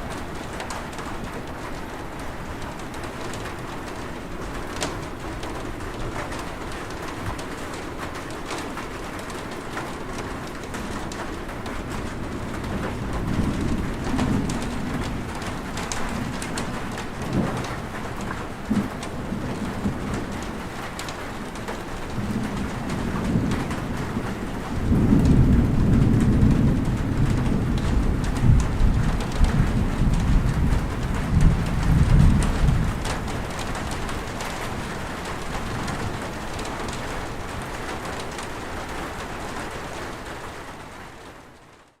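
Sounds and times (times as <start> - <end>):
low rumble of thunder: 0.0 - 41.2
steady rain falling: 0.0 - 42.0.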